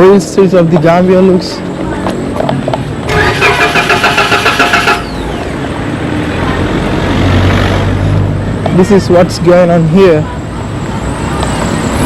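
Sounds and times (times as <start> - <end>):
street traffic: 0.0 - 12.0
engine rumble: 0.7 - 12.0.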